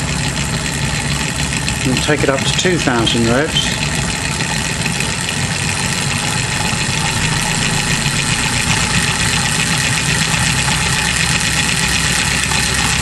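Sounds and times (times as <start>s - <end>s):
mechanical running noise: 0.0s - 13.0s.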